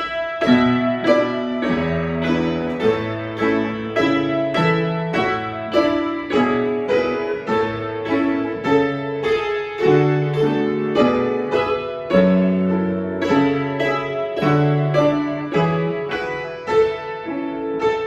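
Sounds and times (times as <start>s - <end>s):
solo piano piece: 0.0s - 18.0s.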